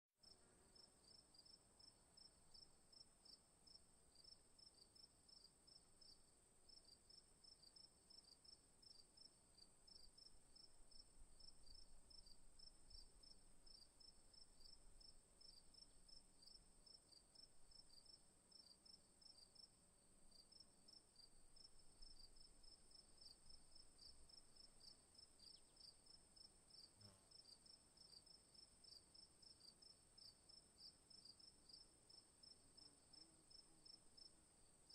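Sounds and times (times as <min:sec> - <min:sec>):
crickets chirping: 0:00.2 - 0:19.7, 0:20.3 - 0:34.9.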